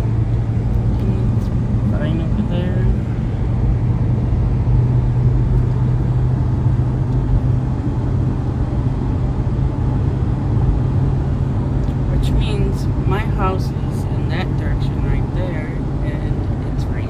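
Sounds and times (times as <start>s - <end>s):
constant low hum: 0.0s - 17.0s
vehicle rumble inside car: 0.0s - 17.0s.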